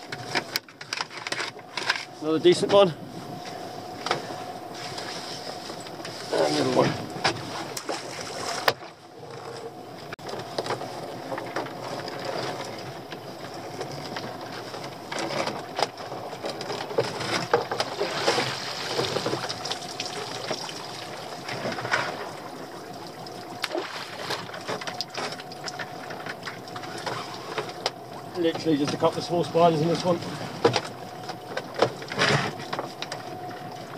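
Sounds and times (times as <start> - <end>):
water splashing and streaming: 0.0 - 33.9.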